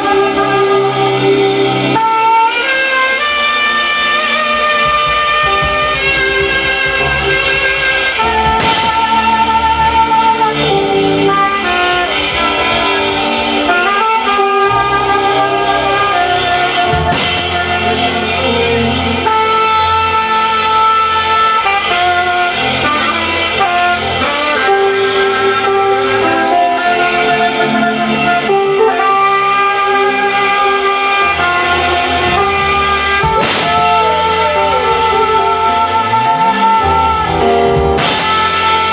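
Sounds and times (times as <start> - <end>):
saxophone playing slow melody: 0.0 - 38.9
sustained chords and bass: 2.7 - 38.9.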